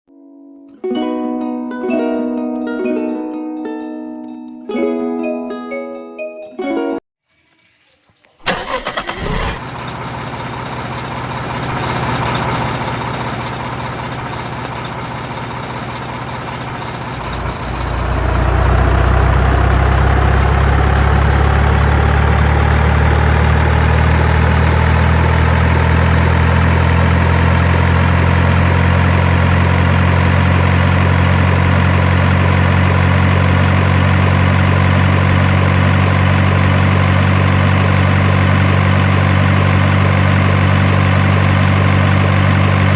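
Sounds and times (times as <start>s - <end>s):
truck engine idling: 8.4s - 42.9s.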